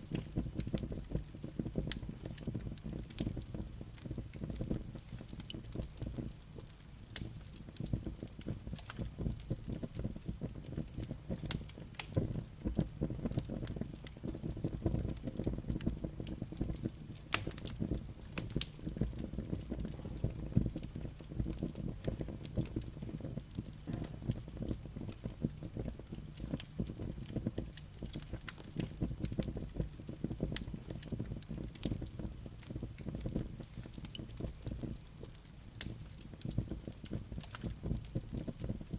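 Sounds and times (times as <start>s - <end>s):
fire crackling and popping: 0.0s - 38.9s
fire rumbling in fireplace: 0.0s - 38.9s.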